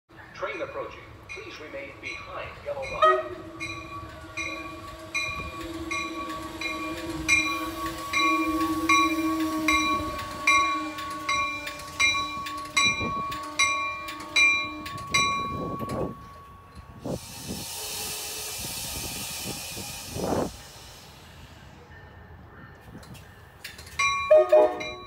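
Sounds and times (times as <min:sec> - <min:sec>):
train passing: 0:00.1 - 0:25.0.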